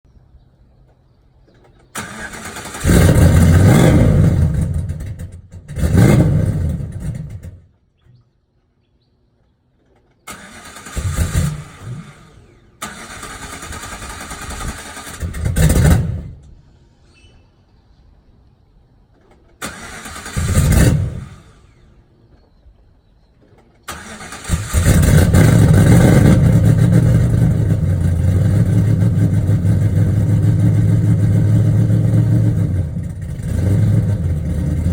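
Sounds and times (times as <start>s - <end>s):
car engine starting and idling: 0.8s - 7.9s, 9.8s - 17.4s, 19.0s - 22.4s, 23.4s - 34.9s.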